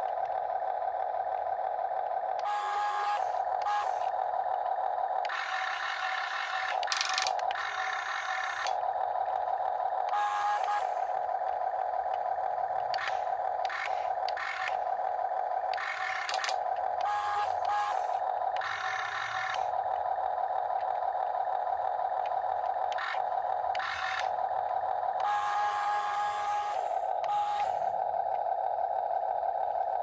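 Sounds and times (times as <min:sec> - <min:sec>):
motor and gears whirring: 0:00.0 - 0:30.0
toy excavator electric whine: 0:00.0 - 0:30.0.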